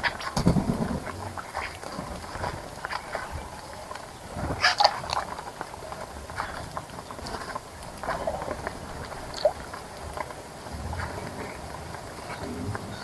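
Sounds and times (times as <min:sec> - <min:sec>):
birds chirping: 0:00.0 - 0:13.0
birds splashing in water: 0:00.0 - 0:13.0.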